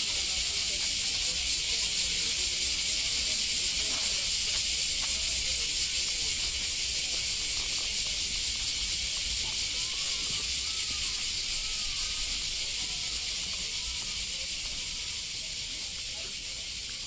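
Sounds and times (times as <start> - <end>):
faint crowd chatter: 0.0 - 17.0
steady high hiss: 0.0 - 17.0.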